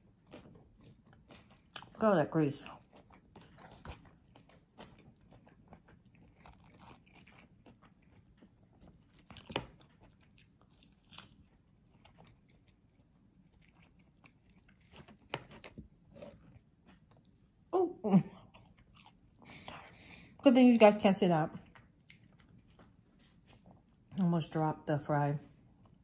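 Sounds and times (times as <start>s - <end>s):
person chewing food: 0.0s - 2.0s, 2.6s - 20.4s, 21.4s - 24.2s, 25.5s - 26.0s.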